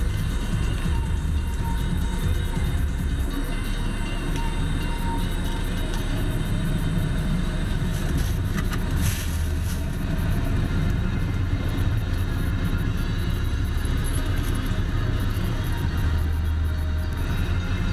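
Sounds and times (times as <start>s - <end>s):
car engine idling: 0.0s - 17.9s.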